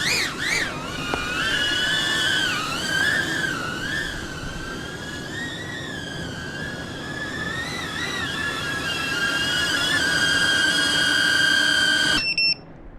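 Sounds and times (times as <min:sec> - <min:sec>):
drone motors whining: 0:00.0 - 0:12.5.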